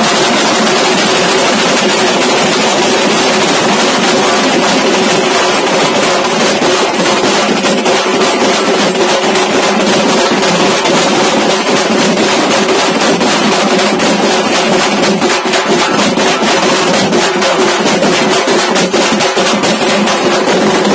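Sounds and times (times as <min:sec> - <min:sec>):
drums beating a fast rhythm: 0:00.0 - 0:20.9.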